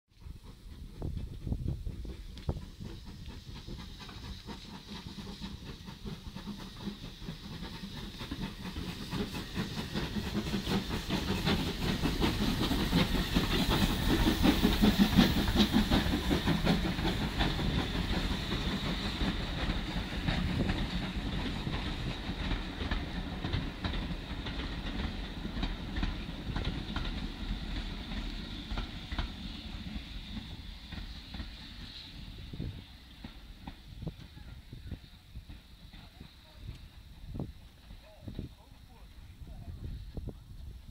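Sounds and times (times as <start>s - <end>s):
steam locomotive exhaust: 0.1s - 40.9s
train wheels clattering over rail joints: 0.2s - 34.3s.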